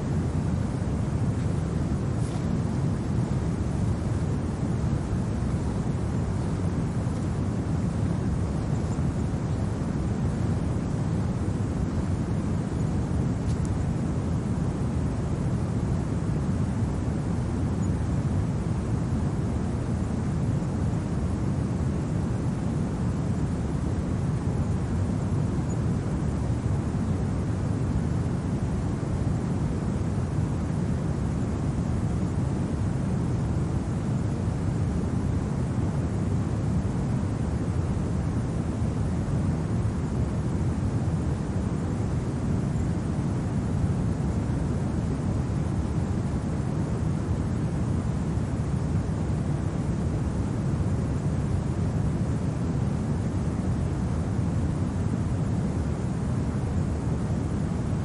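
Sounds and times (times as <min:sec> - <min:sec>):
steady low wind: 0:00.0 - 0:58.0.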